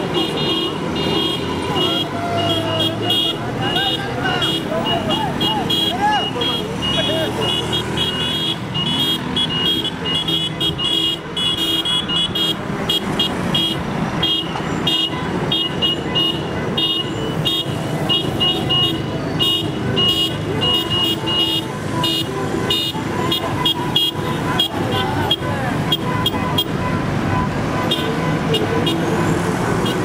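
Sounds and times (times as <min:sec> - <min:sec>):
car horns honking: 0:00.0 - 0:30.0
motorbike engines: 0:00.0 - 0:30.0
street traffic rumble: 0:00.0 - 0:30.0.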